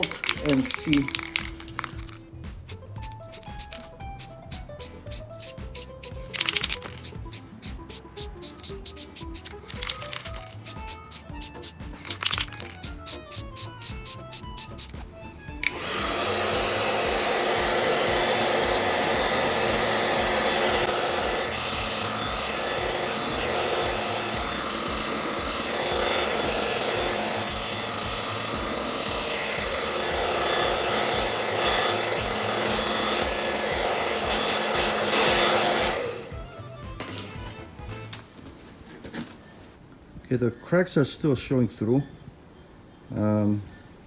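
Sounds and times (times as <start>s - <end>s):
hair dryer blowing: 0.0s - 37.3s.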